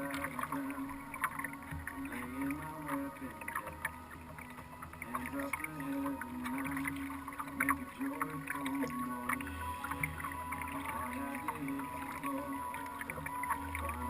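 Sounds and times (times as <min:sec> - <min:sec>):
song playing: 0:00.0 - 0:14.0
water splashing around a kayak: 0:00.0 - 0:14.0.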